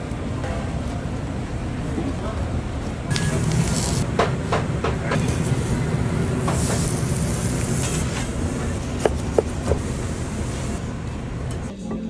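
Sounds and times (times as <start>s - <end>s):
kitchen rumble and hiss: 0.0s - 11.7s.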